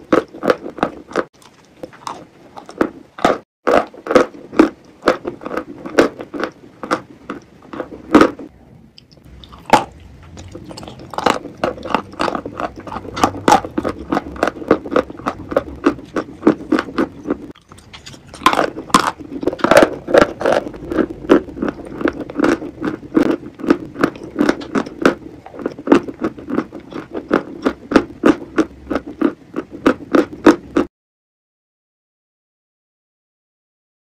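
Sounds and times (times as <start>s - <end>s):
chewing and wet mouth sounds: 0.0s - 30.9s.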